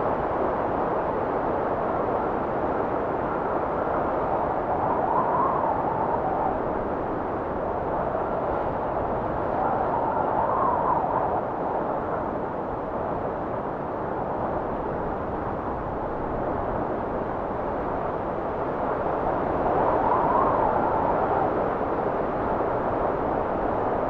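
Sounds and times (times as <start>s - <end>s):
blizzard wind blowing: 0.0s - 24.0s
whistling wind gusts: 0.0s - 24.0s.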